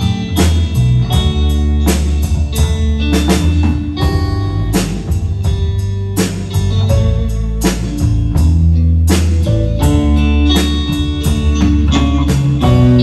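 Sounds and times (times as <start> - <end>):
drum kit steady beat: 0.0 - 13.0
live band playing: 0.0 - 13.0.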